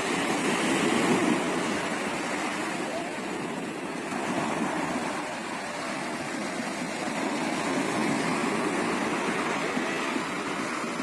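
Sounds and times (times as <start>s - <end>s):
sea waves washing onto shore: 0.0s - 11.0s.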